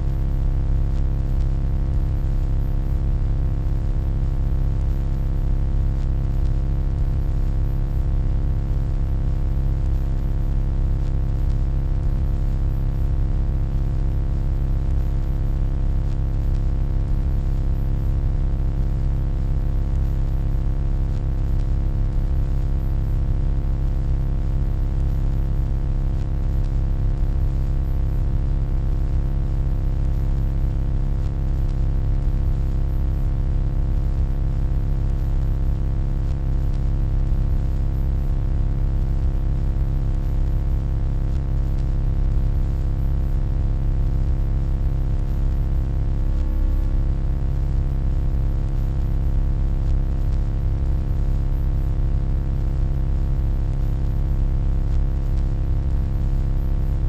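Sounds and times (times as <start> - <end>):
low electronic hum: 0.0 - 51.8, 52.5 - 52.9, 53.6 - 57.0.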